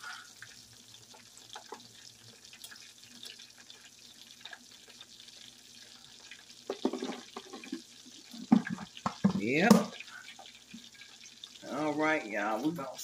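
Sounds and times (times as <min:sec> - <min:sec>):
wings deep-frying in oil: 0:00.0 - 0:13.0.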